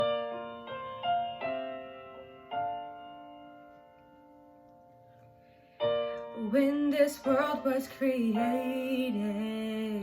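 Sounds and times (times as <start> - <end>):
piano chords ringing: 0.0 - 10.0.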